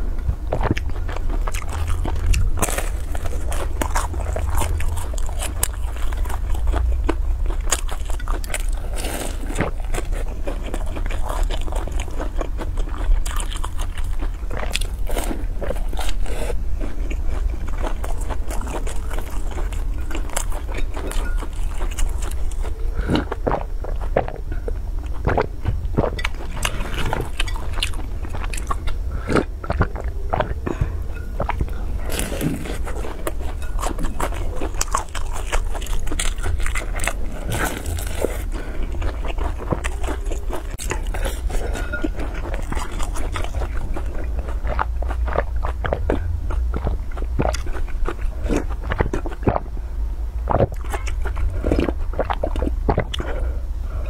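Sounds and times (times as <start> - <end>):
crunching and chewing crispy snack: 0.0 - 54.0
steady low hum: 0.0 - 54.0.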